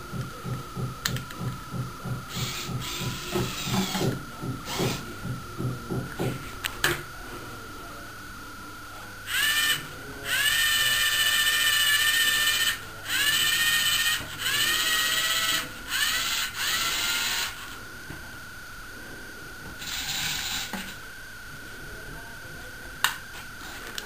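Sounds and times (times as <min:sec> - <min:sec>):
geared electric motors whining: 0:00.0 - 0:24.0.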